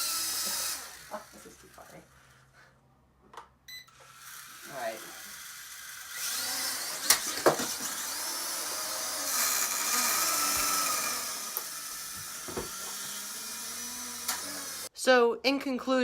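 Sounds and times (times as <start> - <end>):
toy drone propellers whining: 0.0 - 2.0, 3.9 - 14.9.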